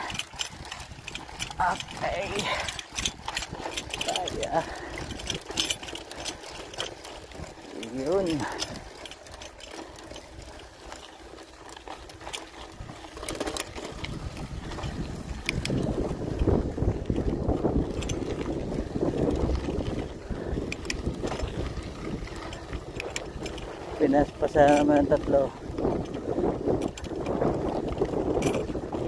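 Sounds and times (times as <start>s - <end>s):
bicycle tyres on gravel: 0.0s - 29.0s
small clicks and rattles: 0.0s - 29.0s
wind buffeting microphone: 0.0s - 29.0s.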